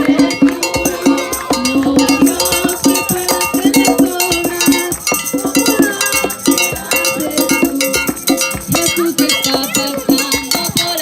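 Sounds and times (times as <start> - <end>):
percussion-heavy music: 0.0 - 11.0.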